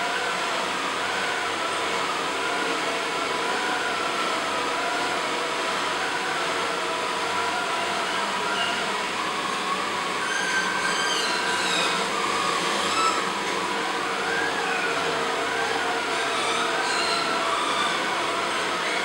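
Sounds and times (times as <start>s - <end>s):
robot vacuum cleaner whirring: 0.0s - 19.0s
thin wavering whine: 0.0s - 19.0s.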